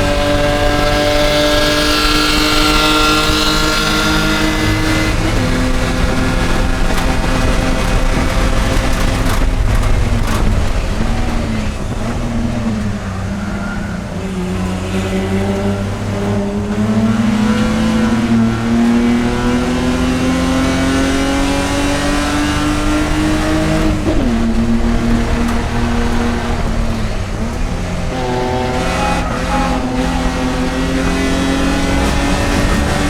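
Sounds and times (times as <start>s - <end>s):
race car engine under load: 0.0s - 33.0s.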